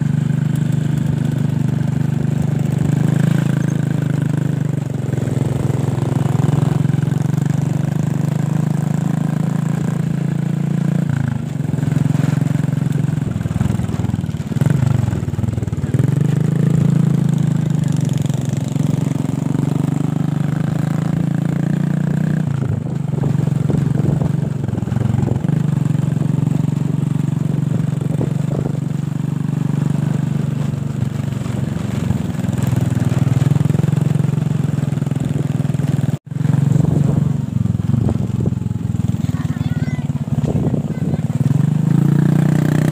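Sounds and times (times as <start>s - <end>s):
motor scooter engine running: 0.0s - 42.9s.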